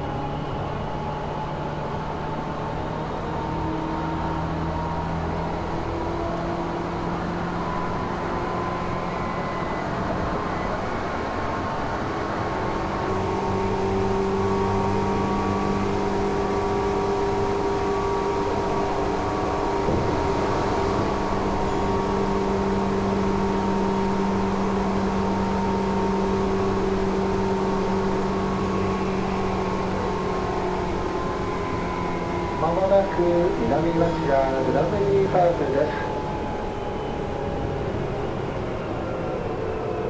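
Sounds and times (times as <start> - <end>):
rail running noise: 0.0 - 40.0
train motor hum: 5.4 - 38.7.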